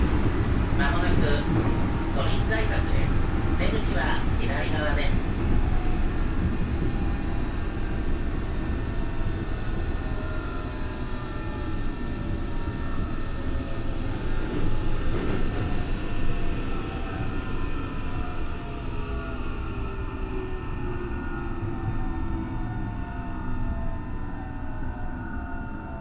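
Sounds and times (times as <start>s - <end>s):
train wheels rumbling on track: 0.0s - 23.7s
faint whining traction tones: 0.0s - 26.0s.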